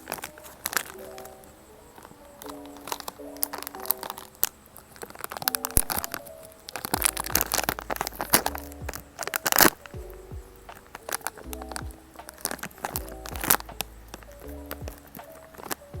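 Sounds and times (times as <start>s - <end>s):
crunching of chewed chips: 0.0s - 15.9s
background music simple melody: 0.0s - 16.0s.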